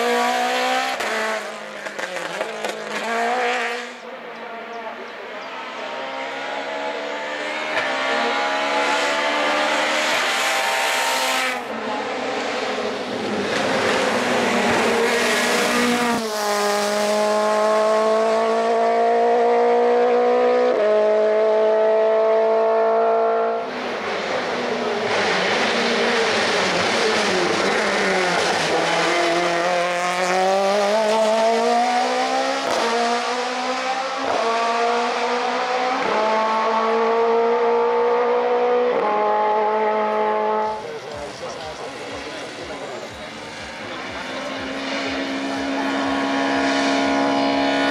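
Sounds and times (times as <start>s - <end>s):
race car engine revving: 0.0s - 47.9s.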